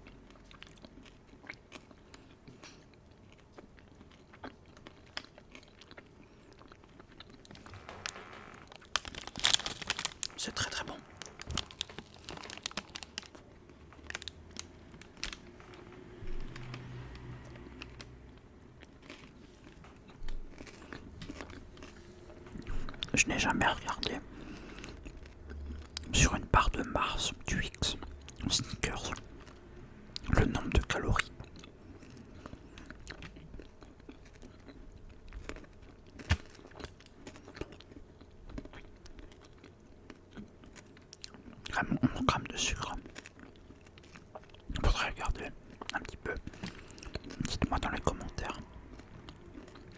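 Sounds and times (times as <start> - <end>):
person chewing with crunches: 0.0 - 49.9.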